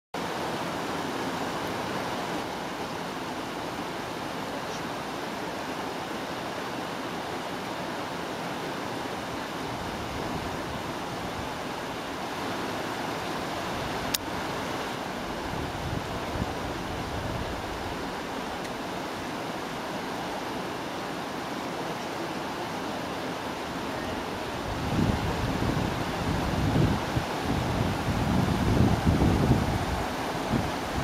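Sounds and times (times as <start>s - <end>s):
waterfall and rushing river: 0.2s - 31.0s.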